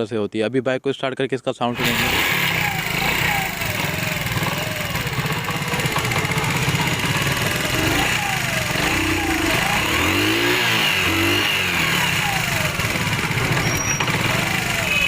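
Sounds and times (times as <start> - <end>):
motorcycle engine idling and revving: 1.7 - 15.0.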